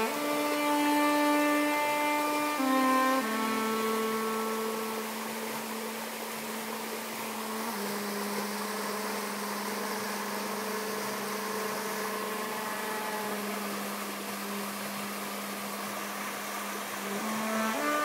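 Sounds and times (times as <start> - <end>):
saxophone long low note: 0.0 - 18.0
stream rushing: 0.0 - 18.0.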